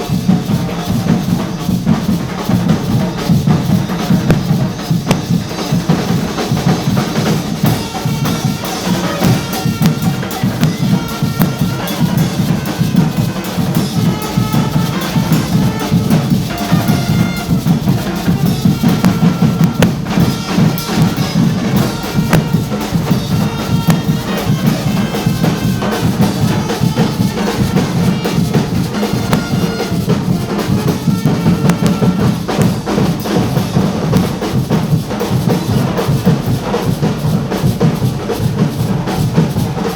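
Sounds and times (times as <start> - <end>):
carnival band drumming: 0.0 - 39.9.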